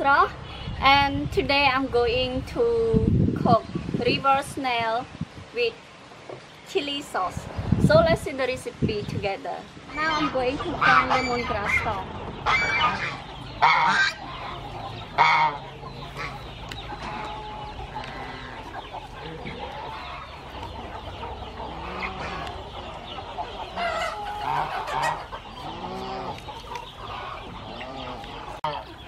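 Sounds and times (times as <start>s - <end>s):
chickens clucking and calling: 2.2s - 29.0s.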